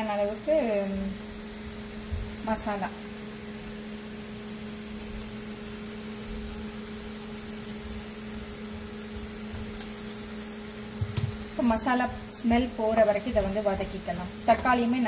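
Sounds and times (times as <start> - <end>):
onions frying in a pan: 0.0 - 15.0.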